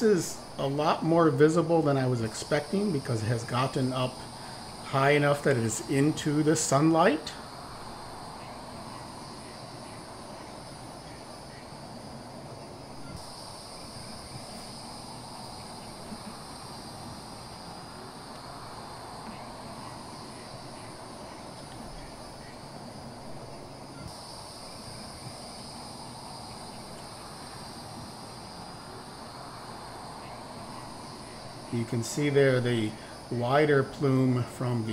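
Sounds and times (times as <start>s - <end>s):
low outdoor background noise: 0.0s - 34.9s
night insects chorus: 0.0s - 34.9s.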